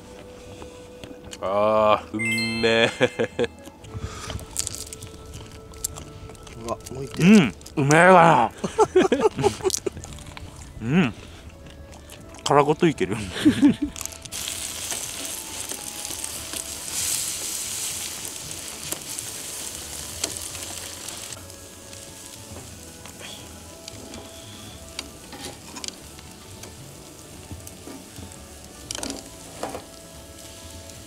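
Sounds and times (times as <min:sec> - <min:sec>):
scallops sizzling on a grill: 0:00.1 - 0:31.0.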